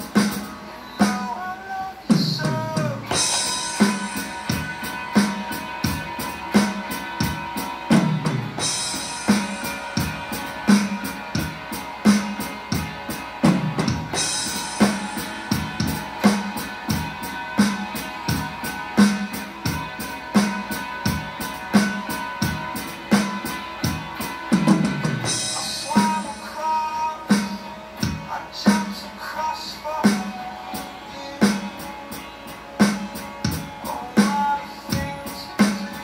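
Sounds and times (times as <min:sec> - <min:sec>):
electronic drum beat: 0:00.0 - 0:01.4, 0:02.1 - 0:36.0
music backing: 0:00.0 - 0:36.0.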